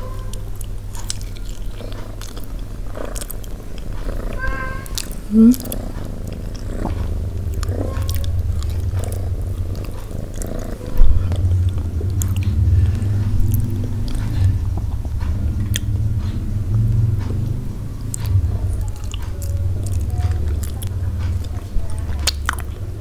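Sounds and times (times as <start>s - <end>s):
low rumble: 0.0s - 23.0s
wet chewing sounds: 0.2s - 23.0s.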